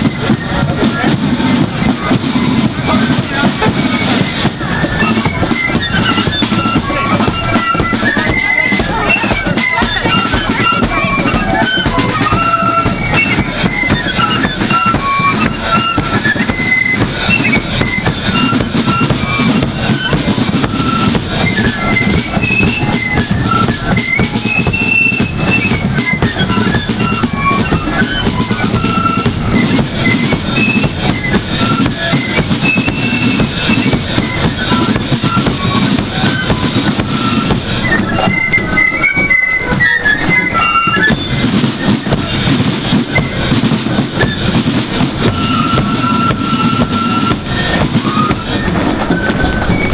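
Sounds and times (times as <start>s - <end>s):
flutes playing a bouncing melody: 0.0s - 49.9s
snare and bass drumming: 0.0s - 49.9s.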